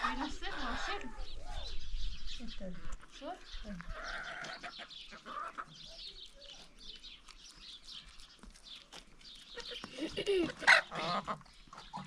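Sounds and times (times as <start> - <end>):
chickens clucking: 0.0 - 1.8, 3.7 - 12.0.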